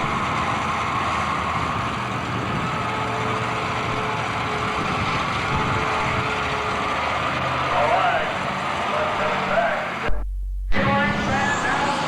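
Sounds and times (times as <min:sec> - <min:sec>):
tractor engine running loudly: 0:00.0 - 0:10.1.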